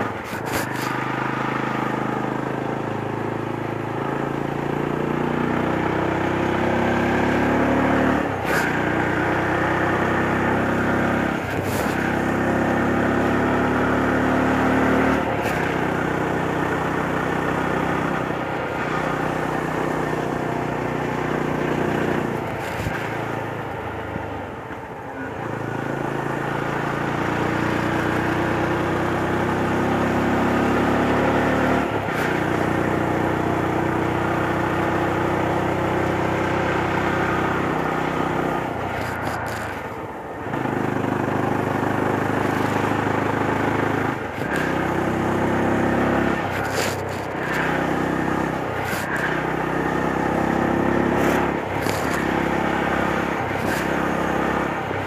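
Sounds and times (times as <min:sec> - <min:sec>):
motorcycle engine revving uphill: 0:00.0 - 0:55.0.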